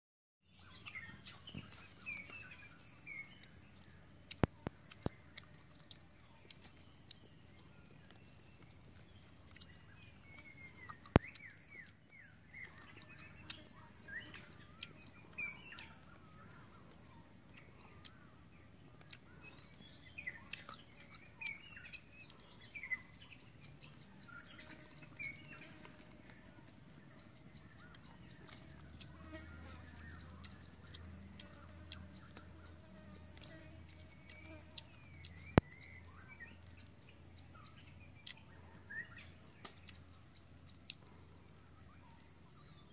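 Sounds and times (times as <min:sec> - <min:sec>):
small birds chirping: 0:00.4 - 0:42.9.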